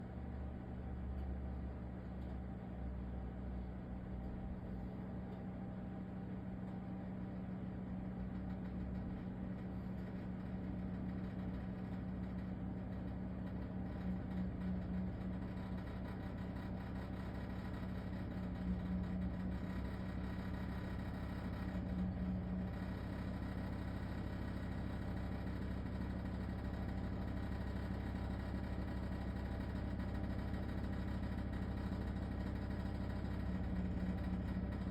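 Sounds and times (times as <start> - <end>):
oven humming: 0.0 - 34.9.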